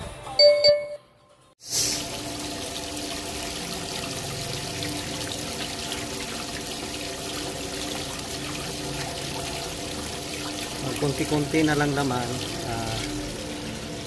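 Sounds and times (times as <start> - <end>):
water gushing onto wet concrete: 1.8 - 14.0.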